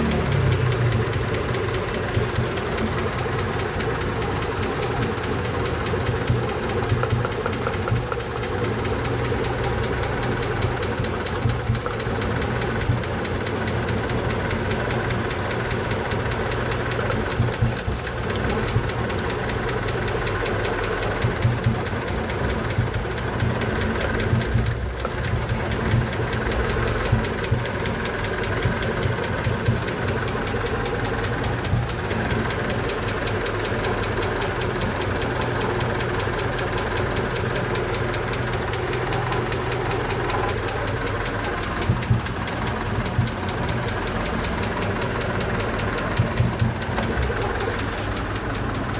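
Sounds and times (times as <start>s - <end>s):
engine idling: 0.0s - 48.9s
fast even ticking: 0.0s - 48.9s.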